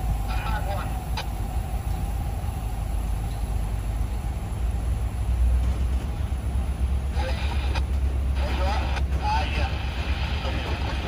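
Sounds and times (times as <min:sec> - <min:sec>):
diesel locomotive engine rumbling: 0:00.0 - 0:11.0.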